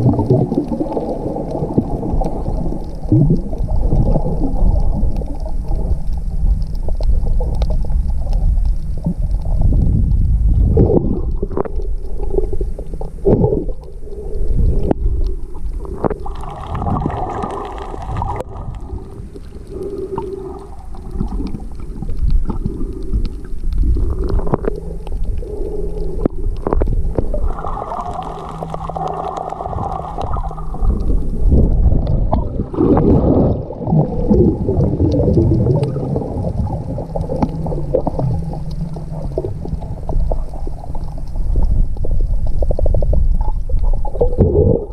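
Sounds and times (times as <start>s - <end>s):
muffled underwater rumble: 0.0s - 44.9s
sharp crackles and clicks: 0.0s - 44.9s.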